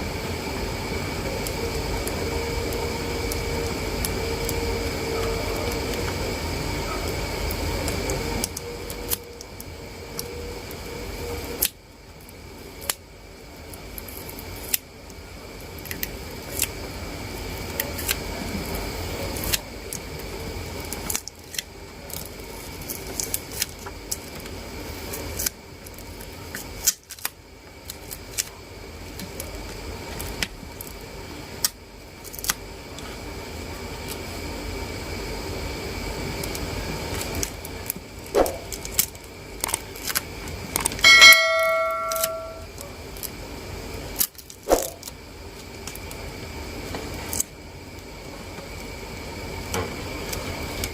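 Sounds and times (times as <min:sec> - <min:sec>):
steady background hum: 0:00.0 - 0:50.9.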